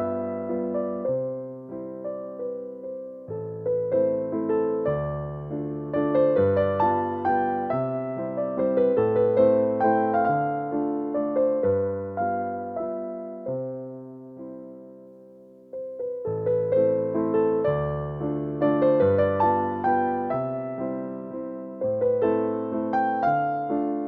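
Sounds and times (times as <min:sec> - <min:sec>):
electric piano melody: 0:00.0 - 0:24.0.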